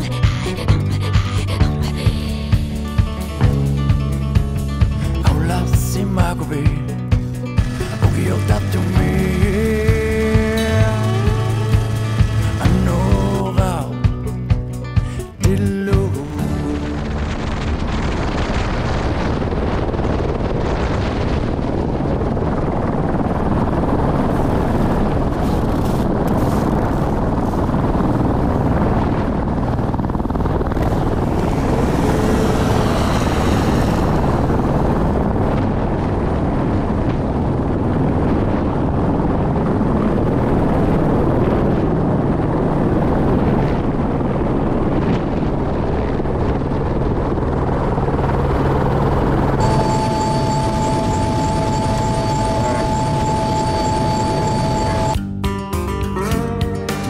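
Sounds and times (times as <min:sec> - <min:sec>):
helicopter rotor and turbine: 0:07.0 - 0:14.4, 0:16.4 - 0:55.2.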